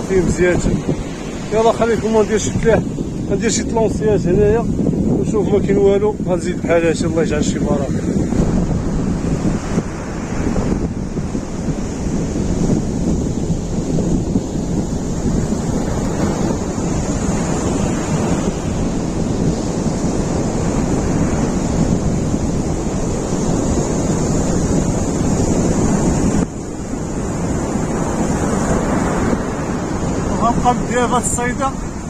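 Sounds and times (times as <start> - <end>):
sea surf washing on beach: 0.0 - 32.0
wind buffeting microphone: 0.0 - 32.0.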